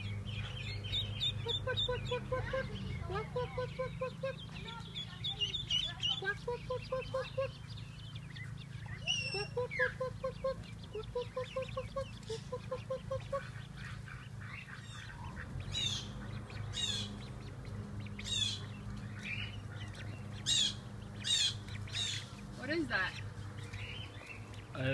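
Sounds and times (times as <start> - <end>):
steady low hum: 0.0 - 24.9
duck quacking: 0.4 - 7.7, 9.1 - 23.3.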